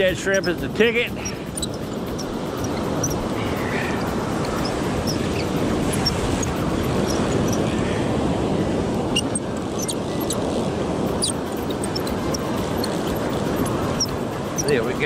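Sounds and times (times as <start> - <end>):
ocean surf breaking waves: 0.0 - 15.0.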